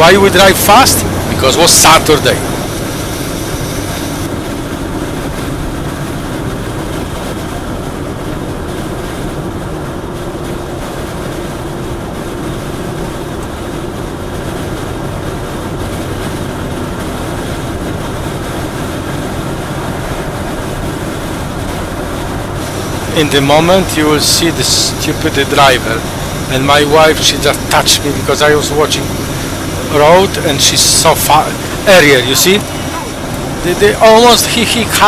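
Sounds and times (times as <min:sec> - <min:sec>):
tyre and road noise: 0:00.0 - 0:35.0.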